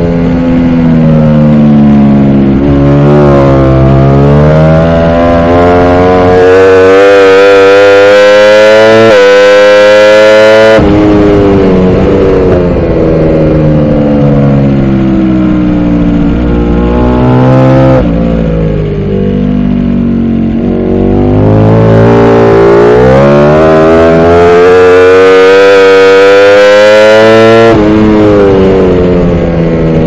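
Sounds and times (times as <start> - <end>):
motorcycle engine wailing: 0.0 - 30.0.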